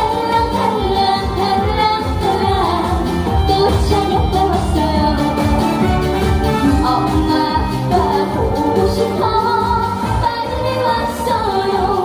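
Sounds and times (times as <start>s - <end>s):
woman singing: 0.0s - 5.7s, 6.6s - 12.0s
band backing track: 0.0s - 12.0s.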